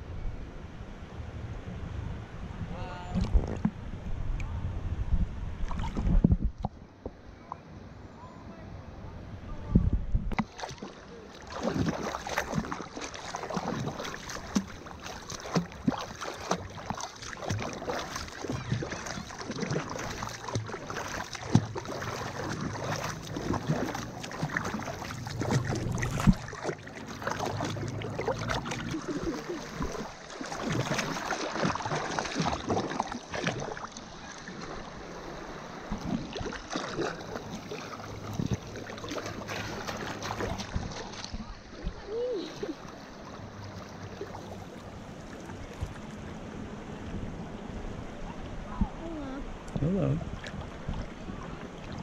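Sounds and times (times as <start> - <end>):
river water lapping and splashing: 5.6 - 7.7, 10.3 - 52.0.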